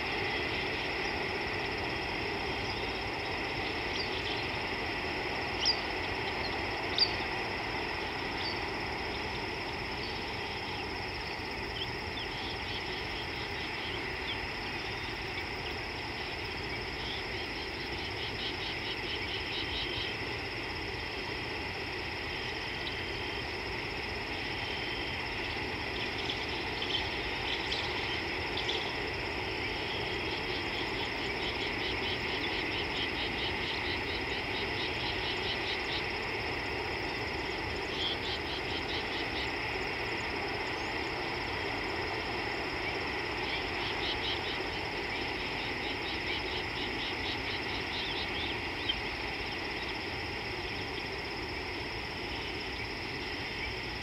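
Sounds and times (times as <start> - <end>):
insects and frogs calling: 0.0 - 54.0.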